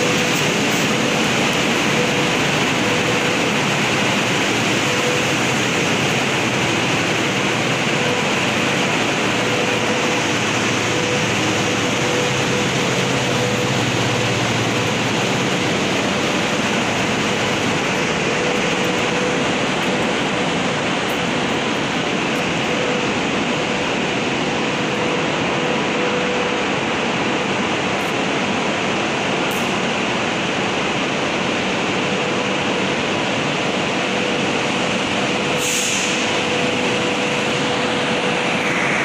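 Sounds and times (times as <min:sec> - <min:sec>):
machinery rushing noise: 0:00.0 - 0:39.0.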